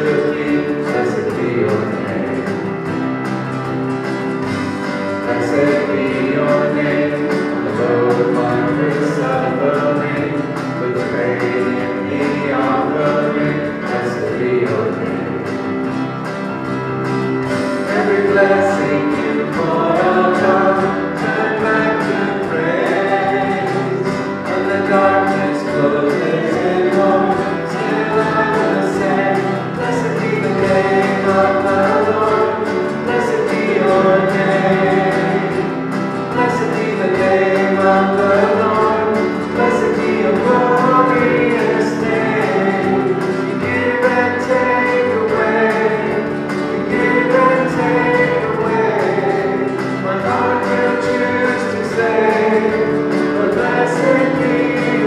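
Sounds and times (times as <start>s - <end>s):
men and women singing: 0.0s - 2.6s, 4.5s - 15.6s, 17.4s - 55.0s
acoustic guitar: 0.0s - 55.0s
keyboard: 0.0s - 55.0s.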